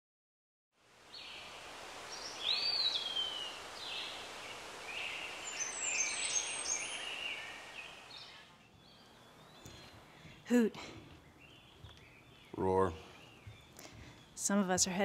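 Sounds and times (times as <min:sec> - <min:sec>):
steady background hiss: 0:00.8 - 0:15.0
birds chirping and calling: 0:02.1 - 0:15.0.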